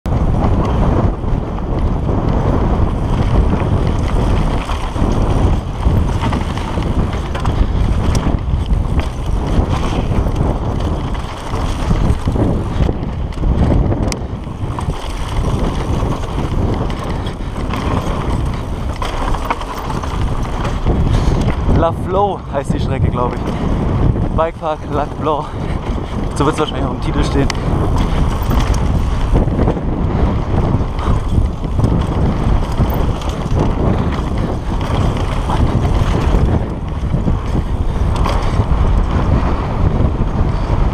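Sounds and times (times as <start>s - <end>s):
rumble of tyres on dirt: 0.0s - 40.9s
wind buffeting microphone: 0.0s - 40.9s
bike rattling: 0.1s - 40.9s.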